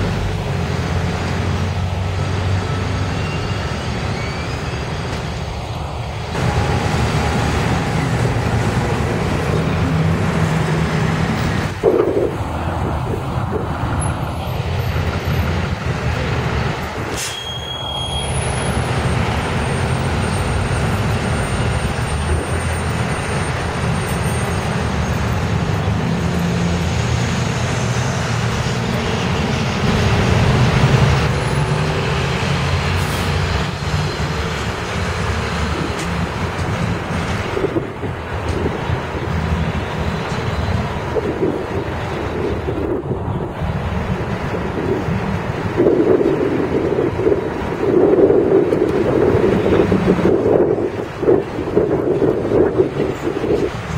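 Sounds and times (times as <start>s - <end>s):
bus engine drone: 0.0s - 53.9s
road noise: 0.0s - 53.9s.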